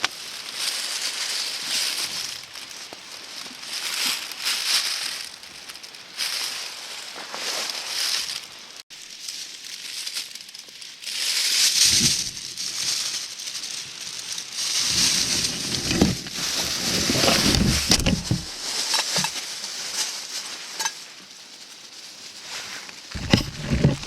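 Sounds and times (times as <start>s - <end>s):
material rustling and crinkling: 0.0s - 24.0s.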